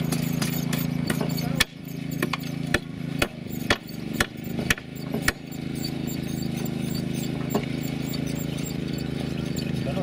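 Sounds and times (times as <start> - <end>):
rail drilling machine knocking: 0.0 - 9.2
drill bit cutting steel: 0.0 - 10.0.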